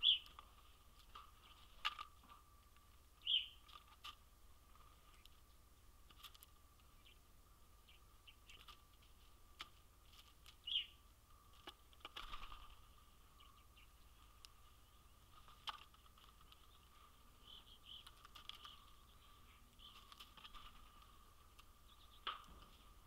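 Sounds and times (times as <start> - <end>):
steady faint whine: 0.0 - 23.0.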